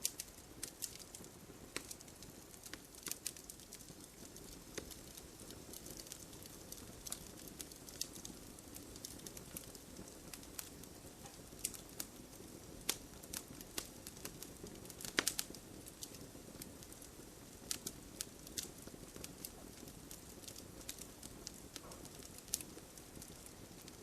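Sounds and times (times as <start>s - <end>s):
campfire crackling and popping: 0.0s - 24.0s
low rumble of flame: 0.0s - 24.0s.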